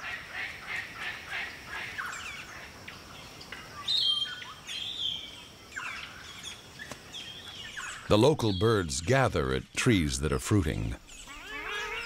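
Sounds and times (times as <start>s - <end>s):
birds chirping: 1.9s - 12.0s.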